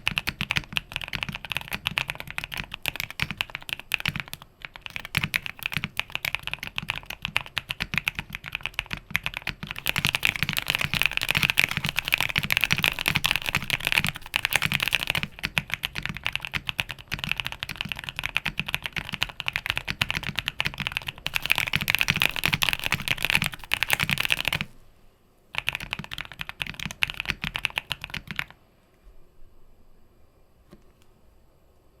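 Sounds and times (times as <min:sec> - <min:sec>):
fast typing on mechanical keyboard: 0:00.0 - 0:24.8, 0:25.6 - 0:28.6.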